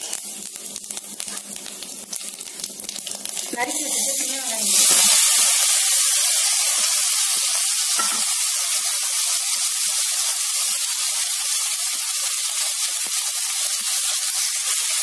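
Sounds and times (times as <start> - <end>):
faint spice crackles: 0.0 - 15.0
shallots sizzling in oil: 0.0 - 15.0.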